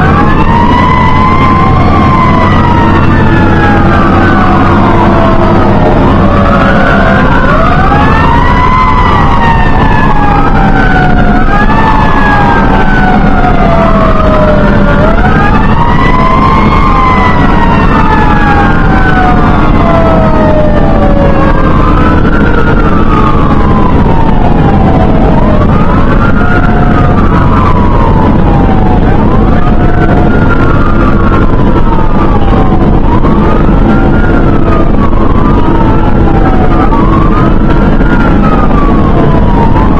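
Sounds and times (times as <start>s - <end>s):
fire engine siren wailing: 0.0s - 39.9s
truck engine drone: 0.0s - 39.9s.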